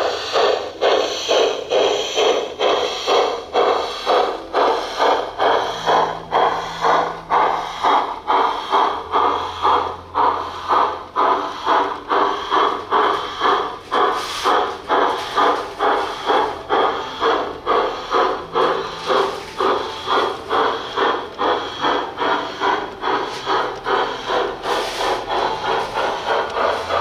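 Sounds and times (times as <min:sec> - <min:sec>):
model locomotive steam chuffing: 0:00.0 - 0:27.0.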